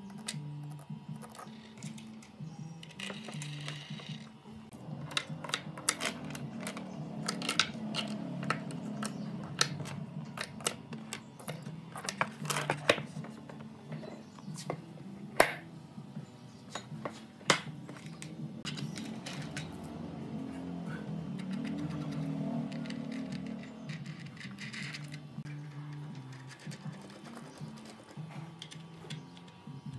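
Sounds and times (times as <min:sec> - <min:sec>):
steel ball bearings clinking: 0:00.0 - 0:14.4, 0:17.8 - 0:20.1, 0:21.3 - 0:29.9.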